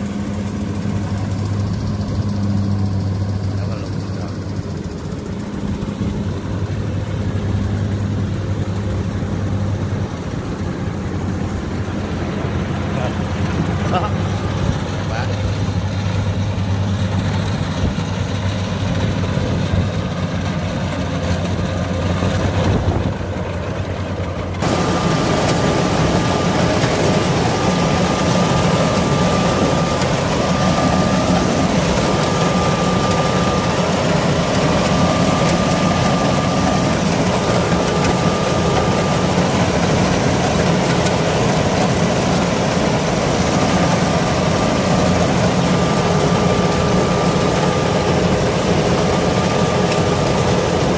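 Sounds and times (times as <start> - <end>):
combine harvester running: 0.0 - 50.9
steady high whine: 0.0 - 50.9.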